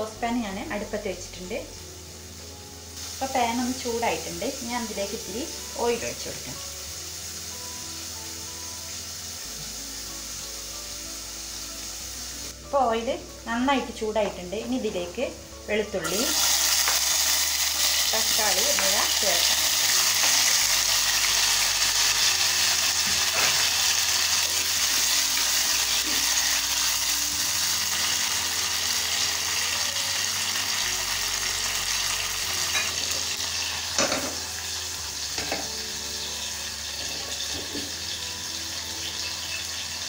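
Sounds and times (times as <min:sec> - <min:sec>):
food sizzling in hot oil: 0:00.0 - 0:40.0.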